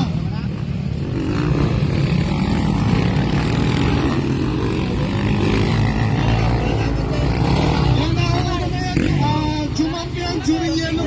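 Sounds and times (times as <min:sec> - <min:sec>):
motocross motorcycle engines running: 0:00.0 - 0:11.0.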